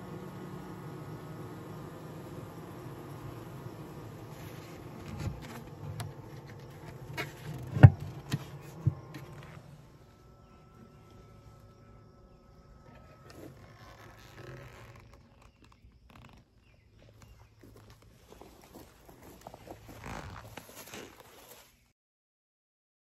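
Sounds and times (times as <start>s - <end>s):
honeybees buzzing: 0.0s - 21.5s.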